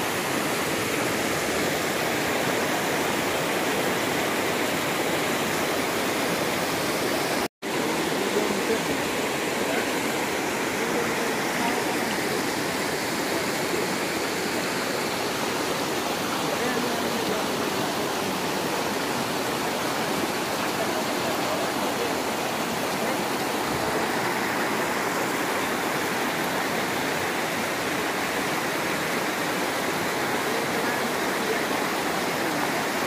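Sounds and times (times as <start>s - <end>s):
river water rushing and splashing: 0.0s - 33.0s.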